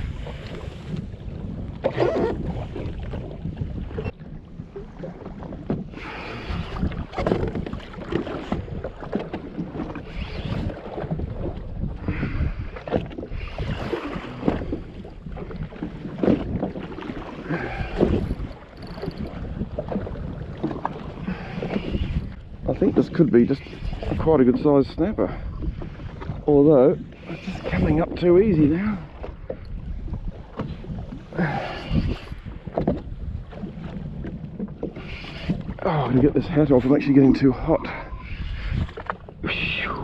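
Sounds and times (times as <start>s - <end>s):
water slapping against hull: 0.0s - 40.0s
wind buffeting microphone: 0.0s - 40.0s.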